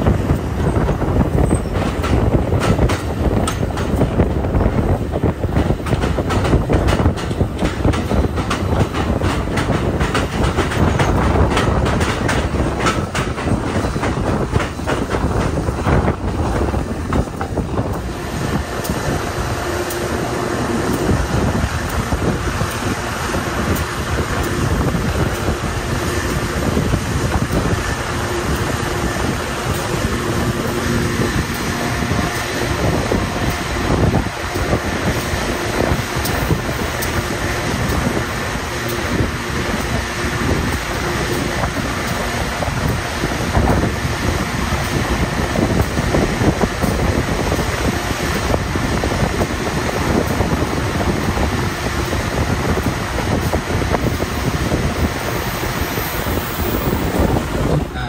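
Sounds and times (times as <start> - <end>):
passenger train running on track: 0.0 - 58.0
wind rushing over microphone: 0.0 - 58.0.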